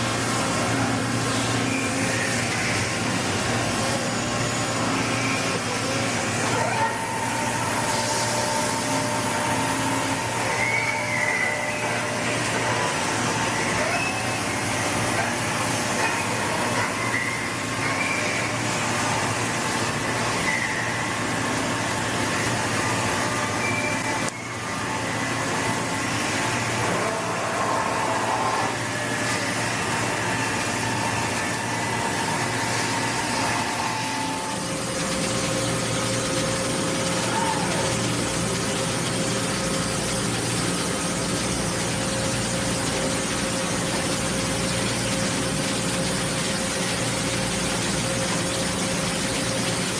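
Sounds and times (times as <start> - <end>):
milling machine running: 0.0 - 49.9
machine whining tones: 0.2 - 49.9.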